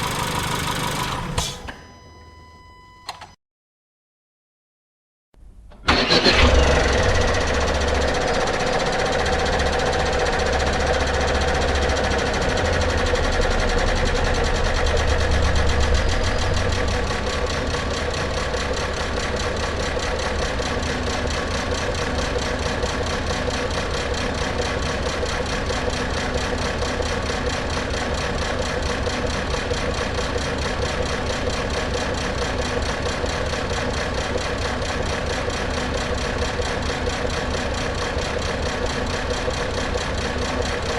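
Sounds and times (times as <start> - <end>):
car engine idling: 0.0 - 1.5, 5.9 - 40.9.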